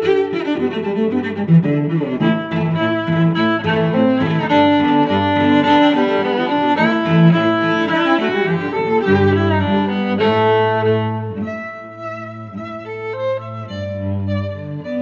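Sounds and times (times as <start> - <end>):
violin and cello music: 0.0 - 15.0.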